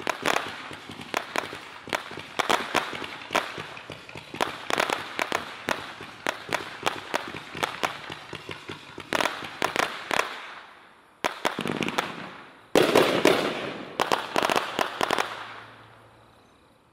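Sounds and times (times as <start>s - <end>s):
fireworks cake cracking shots: 0.0s - 15.7s.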